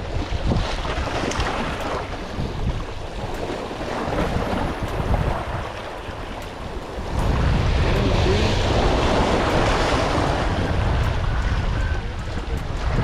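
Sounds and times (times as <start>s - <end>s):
waves and surf: 0.0s - 13.0s
wind buffeting microphone: 0.0s - 13.0s.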